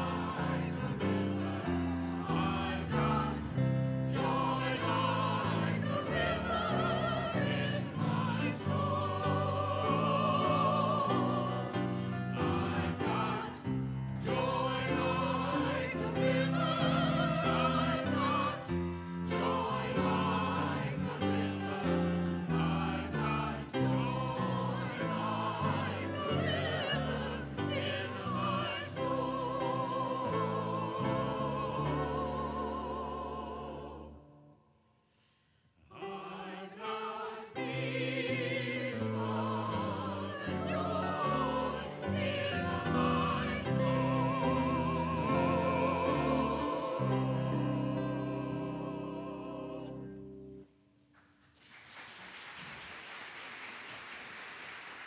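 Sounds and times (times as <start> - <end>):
choir singing: 0.0 - 34.8, 35.8 - 50.8.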